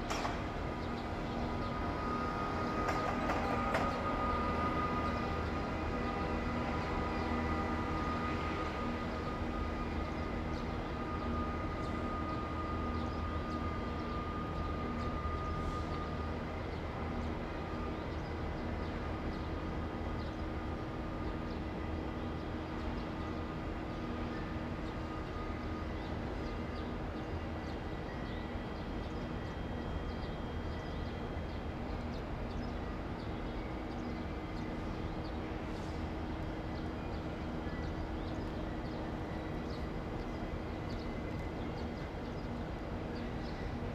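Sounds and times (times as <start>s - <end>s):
diesel railcar engine drone: 0.0s - 43.9s.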